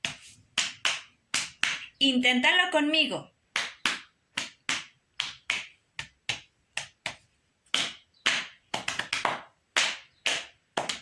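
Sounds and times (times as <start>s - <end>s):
hands clapping and slapping: 0.0s - 2.0s, 3.4s - 11.0s.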